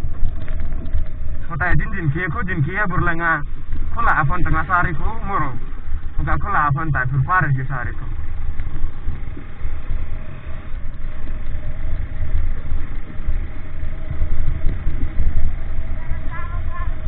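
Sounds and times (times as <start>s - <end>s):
motor vehicle engine rumbling: 0.0s - 17.0s.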